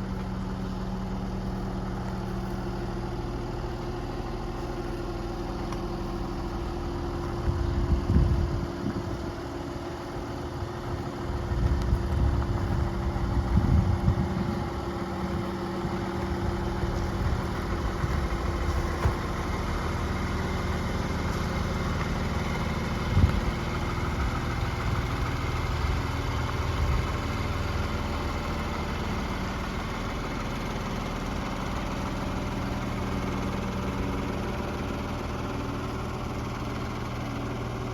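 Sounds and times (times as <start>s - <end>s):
excavator diesel engine idling: 0.0s - 37.9s.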